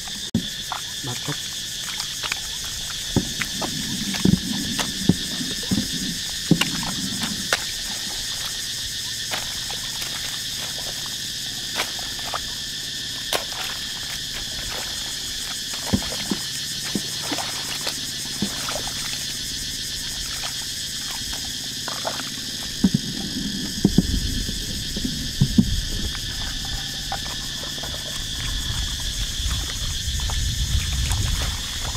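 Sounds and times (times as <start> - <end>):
insects chirring: 0.0 - 31.9
sloshing steps in water: 0.0 - 31.9.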